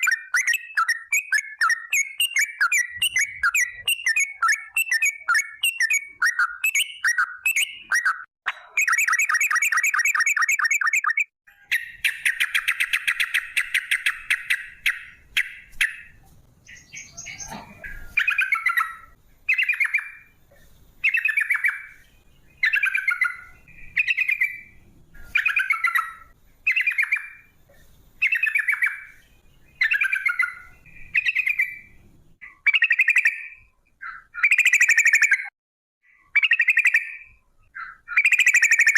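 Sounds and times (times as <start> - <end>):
bird singing chattering trills: 0.0 - 20.4, 21.0 - 27.5, 28.2 - 35.5.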